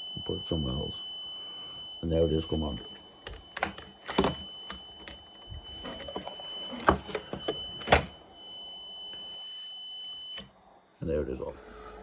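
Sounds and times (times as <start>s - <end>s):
high-pitched alarm tone: 0.0s - 10.6s.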